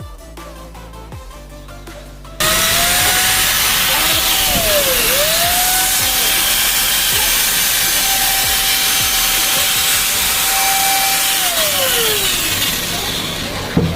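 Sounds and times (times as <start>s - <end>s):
angle grinder whining: 2.4s - 13.9s.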